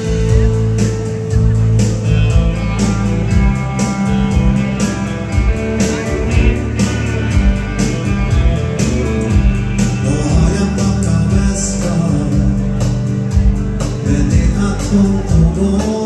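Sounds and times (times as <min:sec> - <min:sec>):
live dance band playing: 0:00.0 - 0:16.0.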